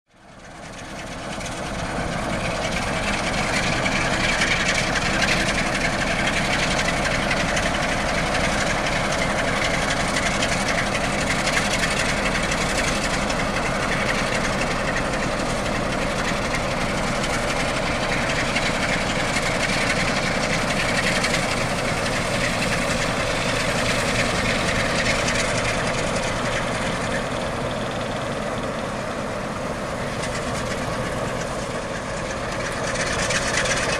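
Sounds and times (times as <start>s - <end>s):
diesel locomotive engine running: 0.1s - 33.9s.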